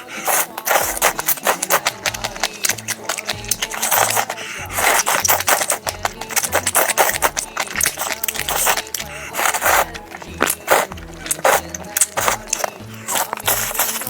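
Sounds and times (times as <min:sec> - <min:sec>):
chewing and crunching food: 0:00.0 - 0:14.0
background music with bass line: 0:00.8 - 0:14.0.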